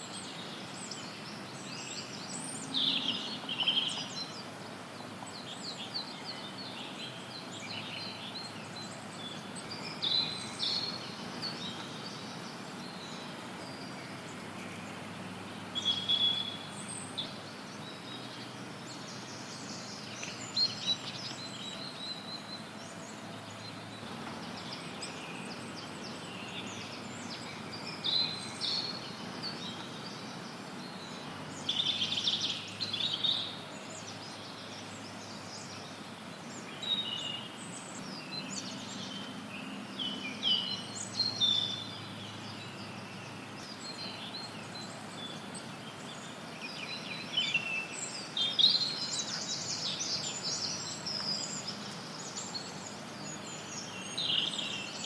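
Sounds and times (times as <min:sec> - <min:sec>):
birds singing and chirping: 0:00.0 - 0:55.0
steady white noise hiss: 0:00.0 - 0:55.0.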